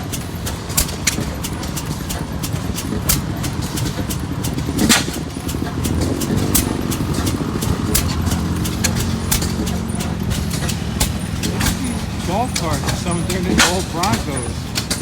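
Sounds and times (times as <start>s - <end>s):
sharp engine pops: 0.0s - 15.0s
stationary engines rumbling: 0.0s - 15.0s.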